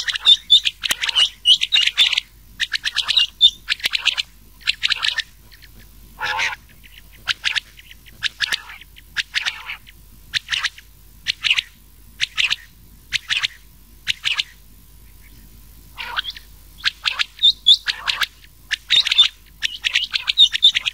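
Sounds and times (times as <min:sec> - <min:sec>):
quail calls: 0:00.0 - 0:20.9.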